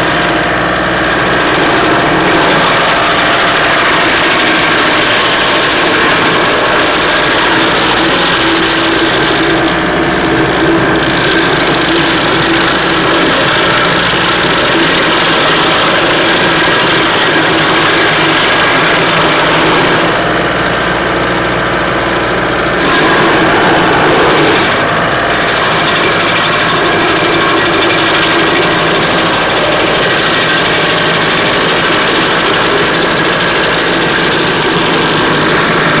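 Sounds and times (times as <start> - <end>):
stump grinder running: 0.0 - 36.0.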